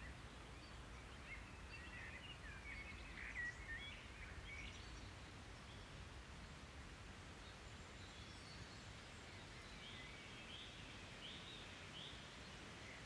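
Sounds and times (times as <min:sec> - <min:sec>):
low background hiss: 0:00.0 - 0:13.0.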